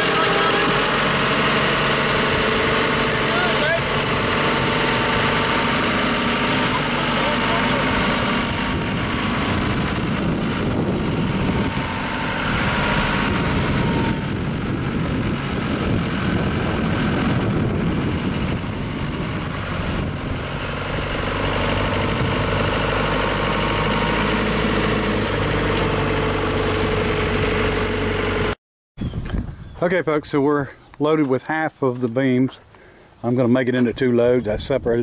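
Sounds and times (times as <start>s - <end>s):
diesel engine running with whine: 0.0s - 28.6s.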